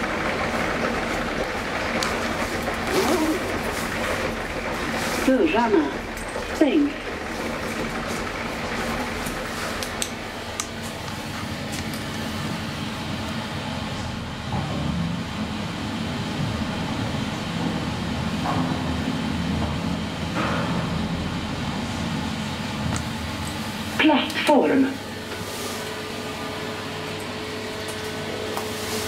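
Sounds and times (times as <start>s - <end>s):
elevator mechanical hum: 0.0s - 29.0s.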